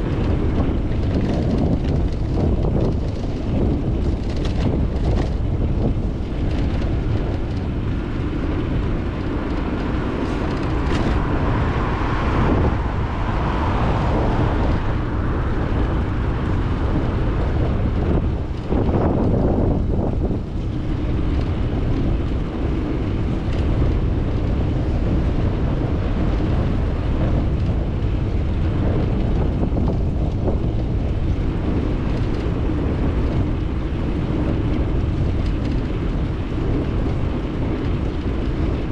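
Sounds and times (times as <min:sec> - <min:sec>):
traffic passing: 0:00.0 - 0:38.9
wind rumbling on microphone: 0:00.0 - 0:38.9.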